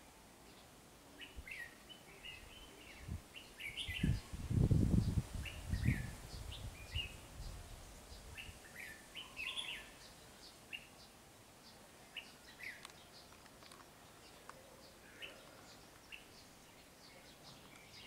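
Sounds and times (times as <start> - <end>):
bird chirping: 0.5 - 4.3, 4.9 - 18.0.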